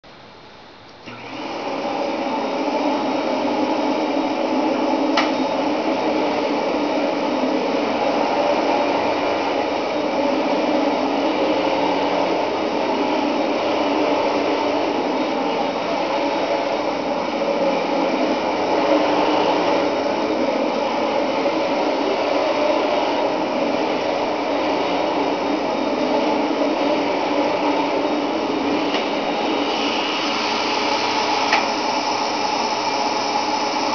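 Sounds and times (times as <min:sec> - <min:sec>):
vacuum cleaner running over carpet: 0:01.0 - 0:33.9.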